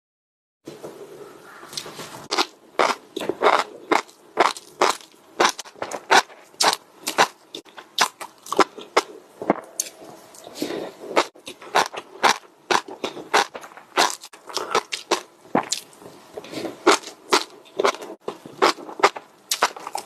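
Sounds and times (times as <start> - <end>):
chewing crunchy food: 1.7 - 20.0.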